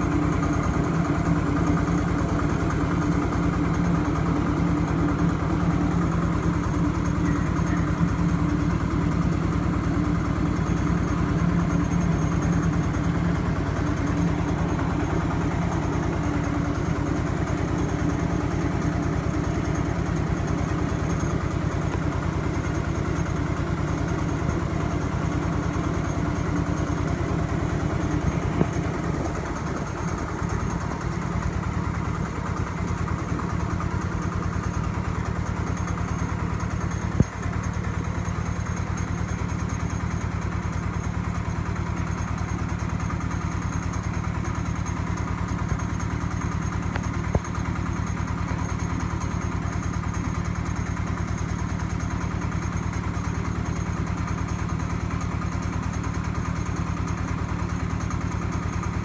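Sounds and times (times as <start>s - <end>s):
diesel engine running: 0.0s - 59.0s
rice mill milling: 0.0s - 59.0s.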